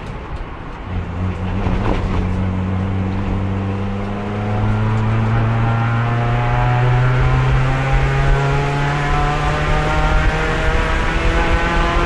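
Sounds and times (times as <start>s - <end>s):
race car engine from inside: 0.8s - 12.0s.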